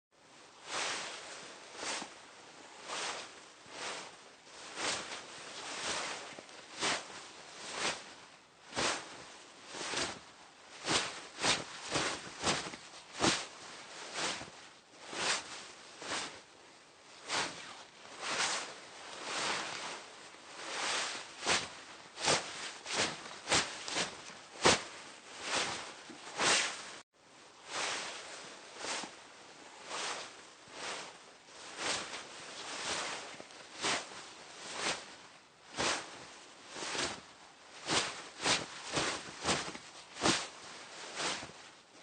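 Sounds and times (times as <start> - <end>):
fabric swishing: 0.3 - 42.0.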